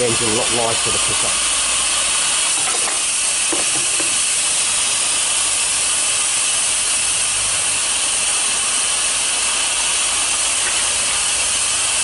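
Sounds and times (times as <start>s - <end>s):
loud steam hiss: 0.0s - 12.0s.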